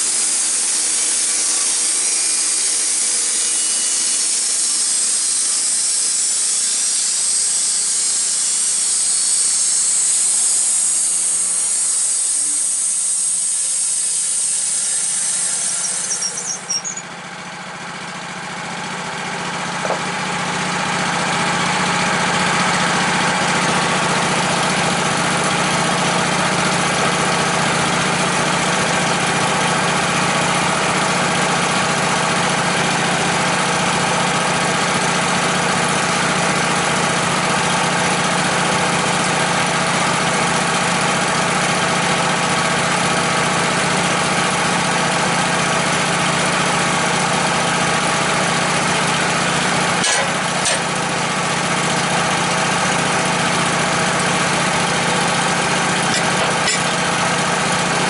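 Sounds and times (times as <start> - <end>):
engine running with low hum: 0.0 - 58.0
power saw cutting wood: 0.0 - 58.0.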